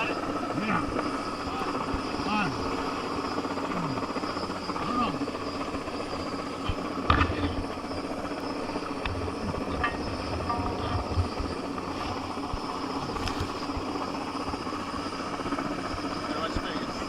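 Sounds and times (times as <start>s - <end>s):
helicopter rotor and turbine drone: 0.0s - 17.0s
turbine whine: 0.0s - 17.0s.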